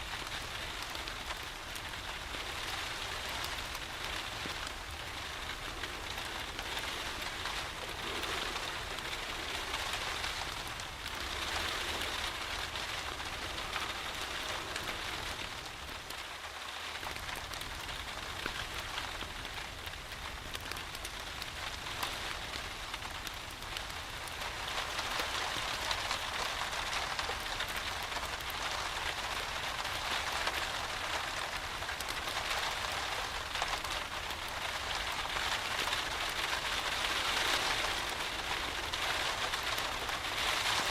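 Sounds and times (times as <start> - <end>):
steady rain falling: 0.0 - 40.9
wood fire burning: 0.0 - 40.9.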